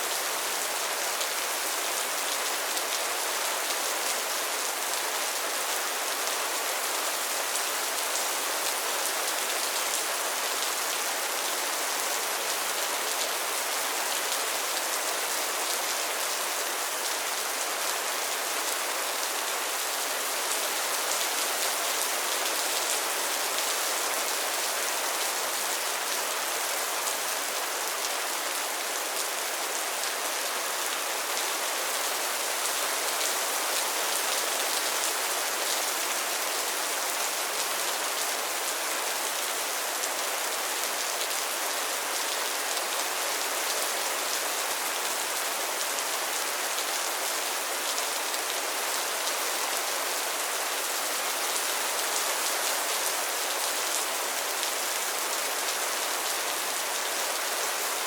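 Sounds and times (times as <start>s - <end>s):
rain falling on pond water: 0.0s - 58.0s.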